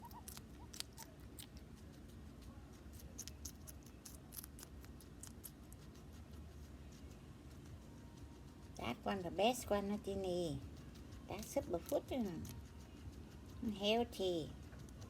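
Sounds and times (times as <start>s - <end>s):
crunchy chewing: 0.0s - 9.2s, 10.6s - 13.7s, 14.5s - 15.0s.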